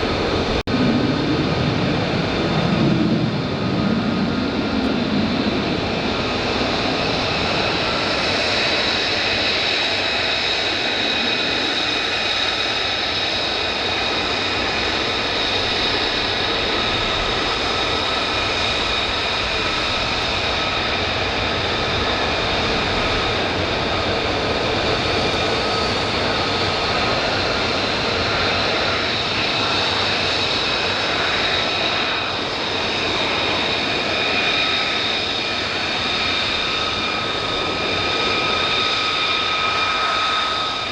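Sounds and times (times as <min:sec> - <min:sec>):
fighter jet engine roar: 0:00.0 - 0:40.9.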